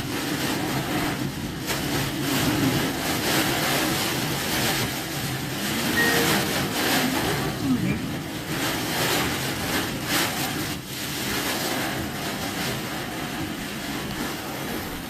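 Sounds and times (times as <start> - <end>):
rushing water and rain: 0.0 - 15.0.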